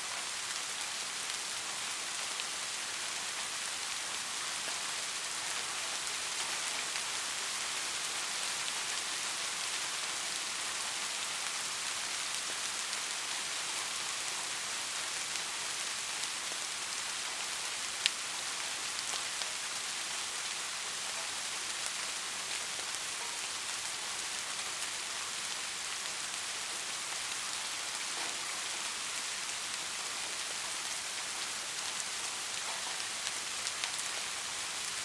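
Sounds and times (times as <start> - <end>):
rain pattering: 0.1 - 35.0.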